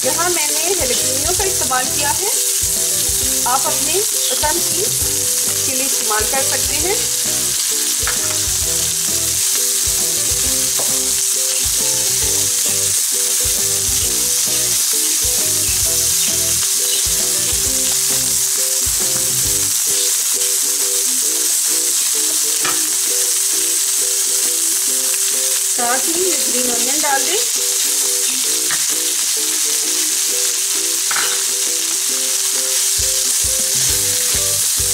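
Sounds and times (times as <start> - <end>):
vegetables sizzling in oil: 0.0 - 34.9.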